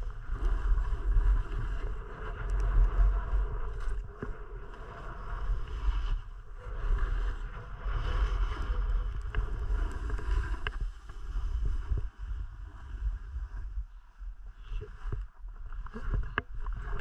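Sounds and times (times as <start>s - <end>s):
wind buffeting microphone: 0.0s - 17.0s
skis sliding on snow: 0.2s - 13.9s.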